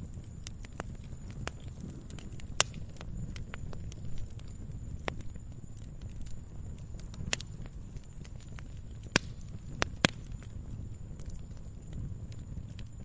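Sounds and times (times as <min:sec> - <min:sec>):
fire rumbling and crackling: 0:00.0 - 0:13.0
wood popping: 0:00.2 - 0:13.0.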